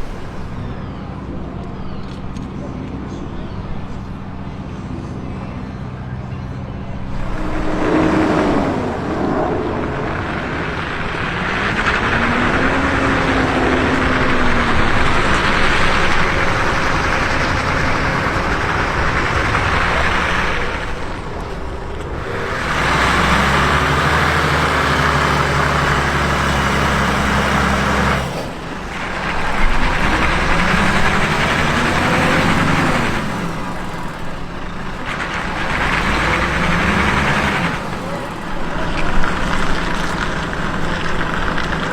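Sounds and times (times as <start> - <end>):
loud rushing noise: 0.0 - 2.5, 3.3 - 41.9
heavy engine revving: 0.0 - 41.9.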